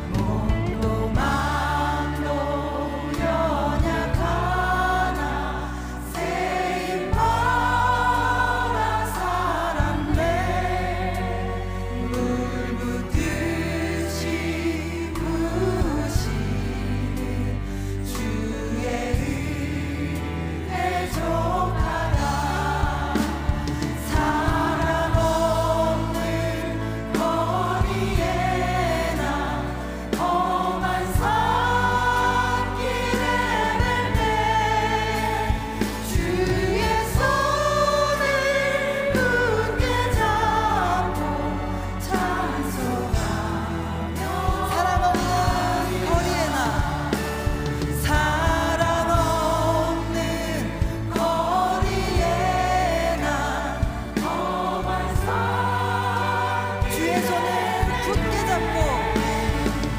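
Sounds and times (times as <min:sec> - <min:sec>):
live band chords and bass: 0:00.0 - 0:59.9
women singing a hymn: 0:00.0 - 0:59.9.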